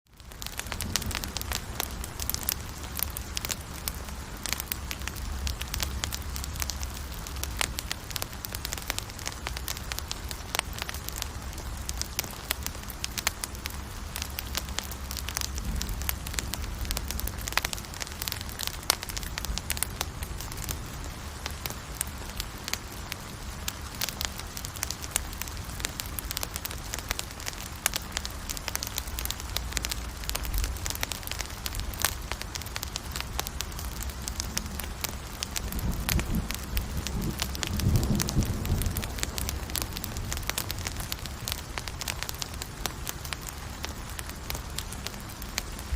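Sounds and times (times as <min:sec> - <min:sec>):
campfire crackling and popping: 0:00.1 - 0:45.9.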